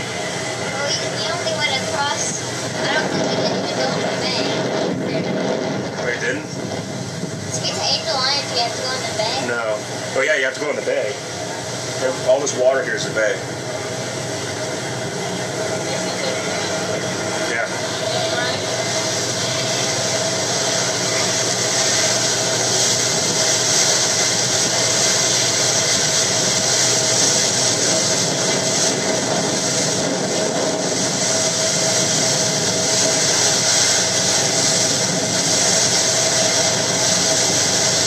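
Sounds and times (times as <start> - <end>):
boat engines droning: 0.0 - 38.0
rushing wind: 0.0 - 38.0
rushing water: 7.3 - 38.0.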